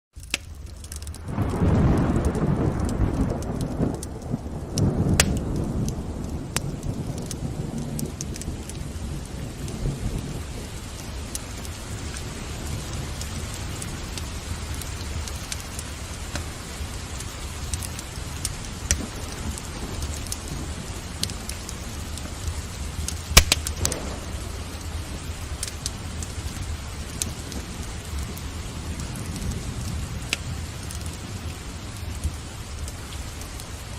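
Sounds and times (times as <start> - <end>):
steady rain: 0.1 - 33.9
wood fire crackling and popping: 0.1 - 33.9
thunder rumbling: 0.5 - 33.9.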